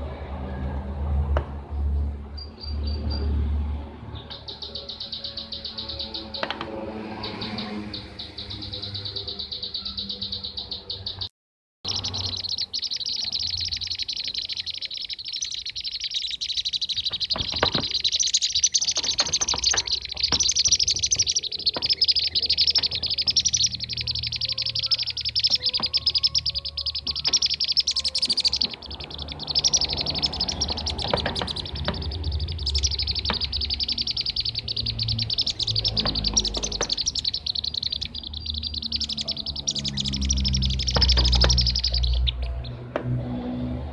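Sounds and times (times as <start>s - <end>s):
birds chattering calls: 2.2s - 11.3s, 11.9s - 42.9s.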